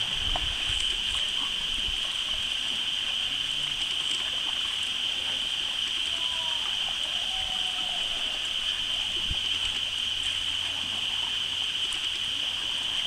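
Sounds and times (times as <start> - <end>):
steady high-pitched hiss: 0.0 - 13.0
waves lapping on stony shore: 0.0 - 13.0.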